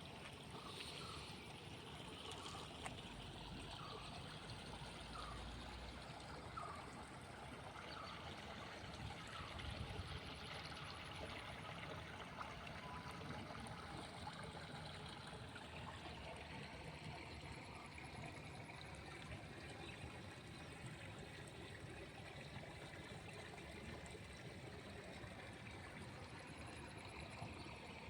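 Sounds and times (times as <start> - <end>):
stream trickling: 0.0 - 28.0.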